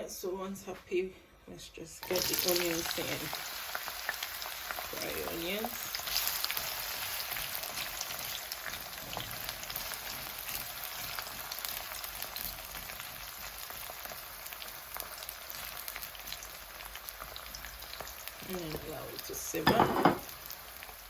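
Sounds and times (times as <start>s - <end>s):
onions sizzling in oil: 2.0s - 21.0s.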